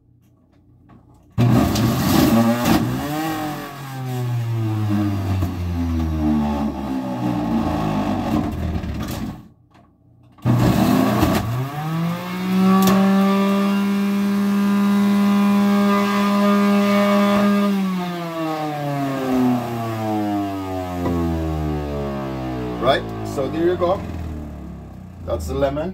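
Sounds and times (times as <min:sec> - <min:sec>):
electric juicer motor whining: 0:01.4 - 0:09.0, 0:10.5 - 0:23.3, 0:23.9 - 0:25.3.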